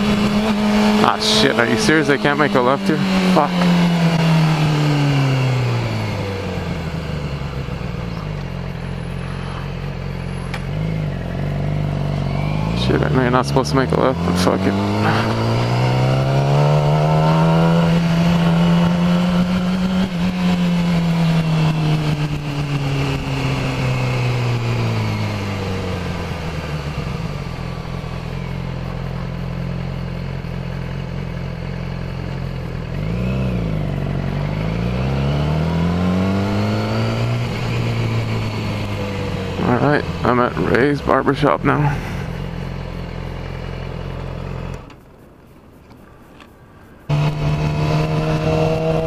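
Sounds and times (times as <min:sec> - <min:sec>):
motorcycle engine revving: 0:00.0 - 0:45.1, 0:47.1 - 0:49.0.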